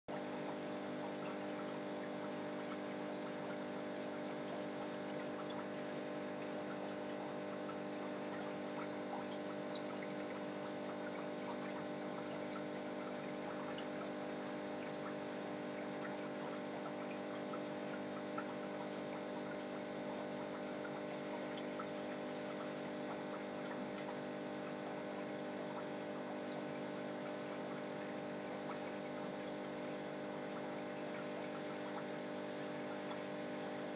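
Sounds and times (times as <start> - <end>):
aquarium filter humming: 0.1 - 33.9
water trickling: 0.1 - 33.9.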